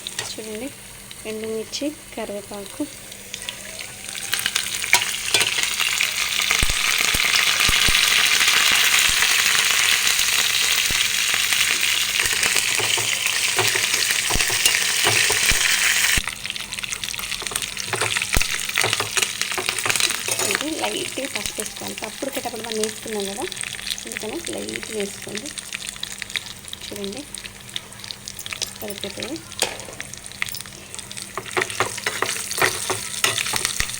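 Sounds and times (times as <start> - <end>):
spices sizzling in hot oil: 0.0 - 33.9.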